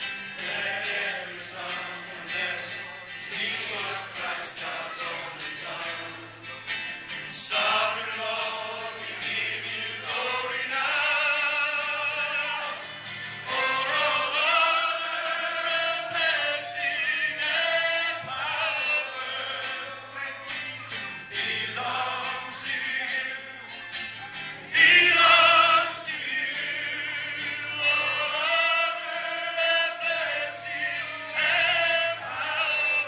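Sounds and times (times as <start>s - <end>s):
congregation singing: 0.0s - 33.0s.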